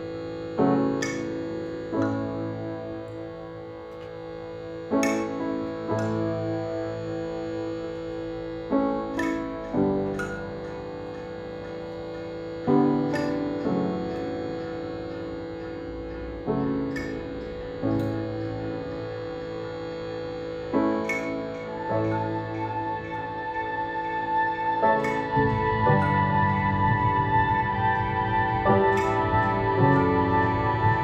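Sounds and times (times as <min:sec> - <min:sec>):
calm instrumental music: 0:00.0 - 0:31.0.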